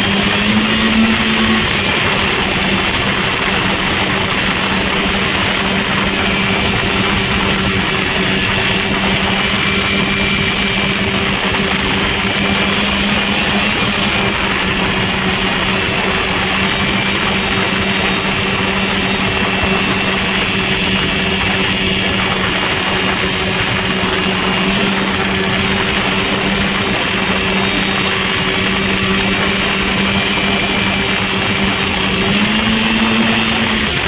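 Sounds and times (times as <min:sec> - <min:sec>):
snowmobile engine running: 0:00.0 - 0:34.0.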